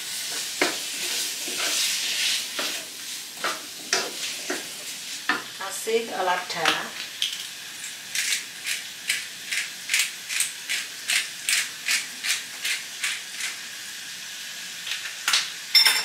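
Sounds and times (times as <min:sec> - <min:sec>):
faint frying sizzle: 0:00.0 - 0:16.0.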